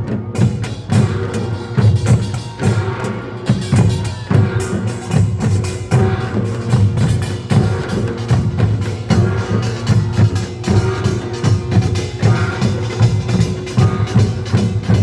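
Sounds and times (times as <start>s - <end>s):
drums beating steady rhythm: 0.0s - 15.0s.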